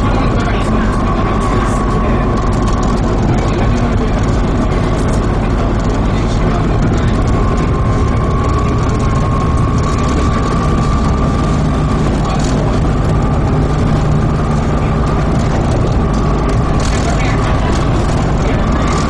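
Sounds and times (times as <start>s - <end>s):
diesel bus engine running: 0.0s - 19.0s
high whine: 0.0s - 19.0s.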